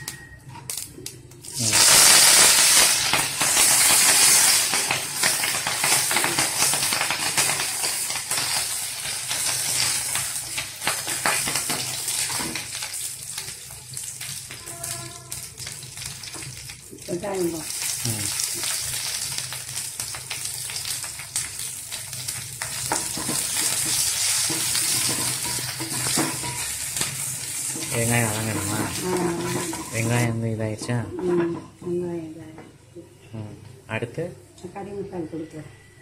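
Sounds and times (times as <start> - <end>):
leaves sizzling in hot oil: 0.0 - 30.4.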